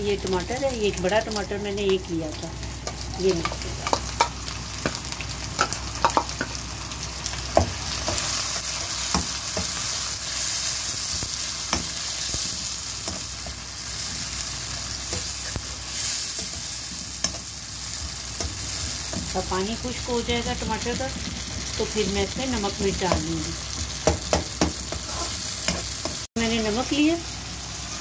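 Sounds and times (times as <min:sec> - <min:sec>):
sauce sizzling in hot oil: 0:00.0 - 0:28.0.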